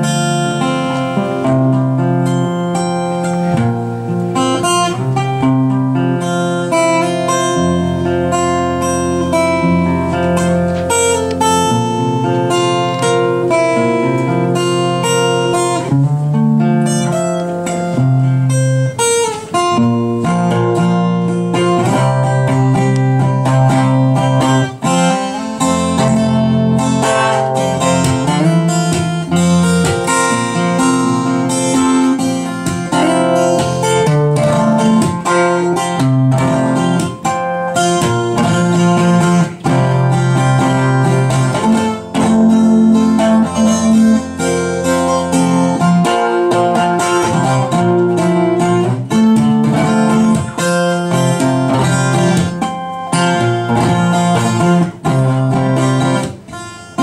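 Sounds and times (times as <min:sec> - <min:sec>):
acoustic guitar playing: 0:00.0 - 0:57.0.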